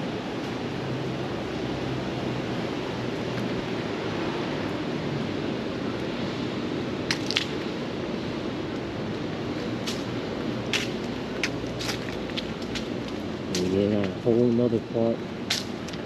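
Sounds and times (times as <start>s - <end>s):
distant traffic: 0.0s - 16.0s.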